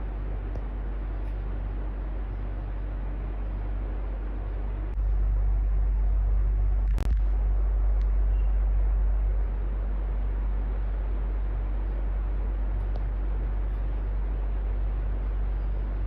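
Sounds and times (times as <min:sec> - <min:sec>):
electric fan whooshing and humming: 0:00.0 - 0:16.0.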